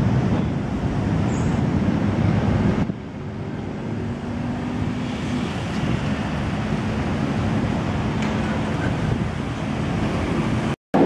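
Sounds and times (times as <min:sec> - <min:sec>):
road traffic hum: 0:00.0 - 0:11.0
wind rumbling on microphone: 0:00.0 - 0:11.0.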